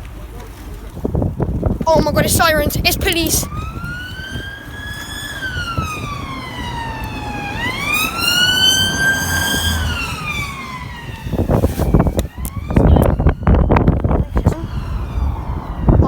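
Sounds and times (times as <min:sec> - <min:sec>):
police siren wailing: 0:02.0 - 0:16.0.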